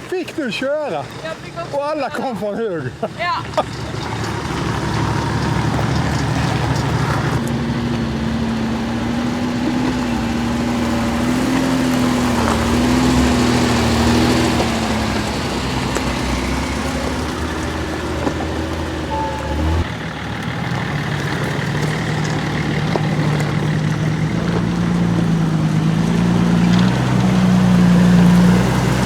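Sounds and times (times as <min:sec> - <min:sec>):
off-road vehicle engine droning: 0:00.0 - 0:29.0.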